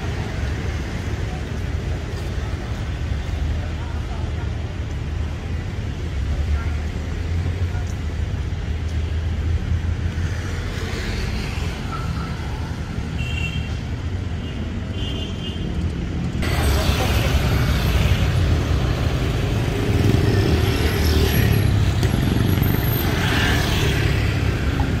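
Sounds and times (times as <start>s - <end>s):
cars and motorcycles passing: 0.0s - 13.2s, 15.6s - 25.0s.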